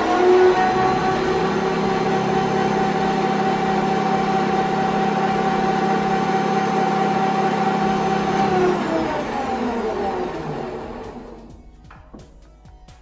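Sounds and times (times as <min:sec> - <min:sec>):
metal lathe whining: 0:00.0 - 0:11.6.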